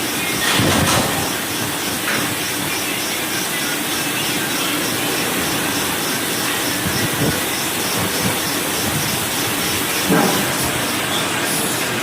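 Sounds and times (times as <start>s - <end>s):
lathe machining hiss: 0.0s - 12.0s.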